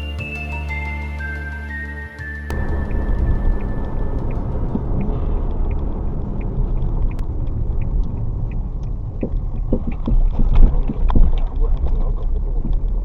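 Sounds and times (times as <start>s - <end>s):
car road and engine rumble: 2.5s - 13.0s
faint ticking: 2.5s - 13.0s.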